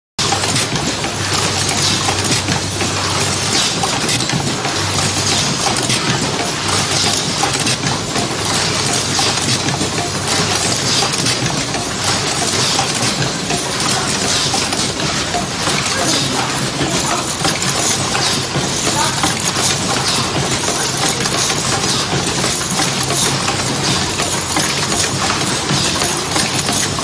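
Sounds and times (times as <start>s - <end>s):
machine clattering clicks: 0.2s - 27.0s.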